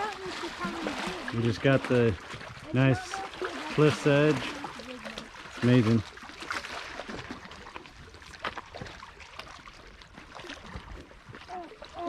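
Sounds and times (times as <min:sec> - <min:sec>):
waves lapping against rocks: 0:00.0 - 0:12.0.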